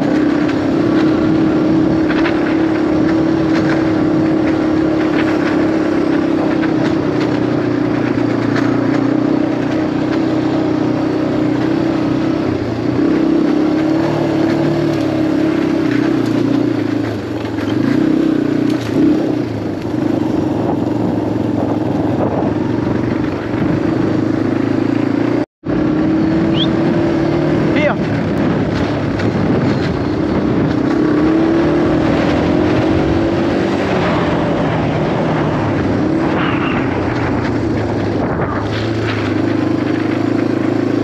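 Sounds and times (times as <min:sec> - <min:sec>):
motorbike engine running: 0:00.0 - 0:41.0.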